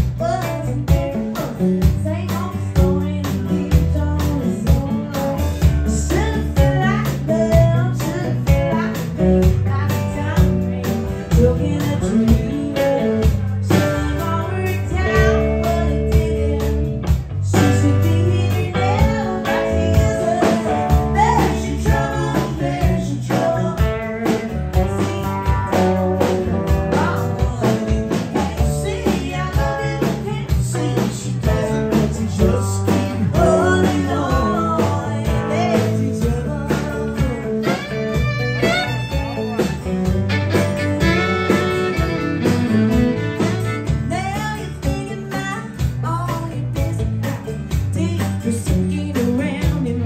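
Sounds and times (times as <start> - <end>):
drum kit beat: 0.0 - 50.0
electric guitar: 0.0 - 50.0
woman singing: 0.0 - 50.0.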